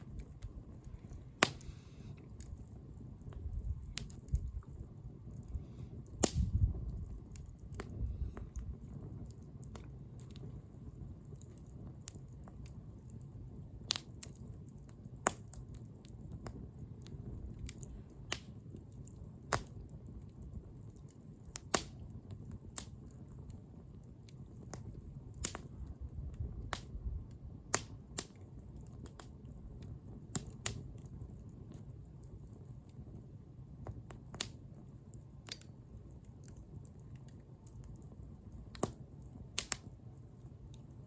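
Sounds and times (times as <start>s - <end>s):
fire crackling and popping: 0.0s - 41.0s
low rumble of fire: 0.0s - 41.0s.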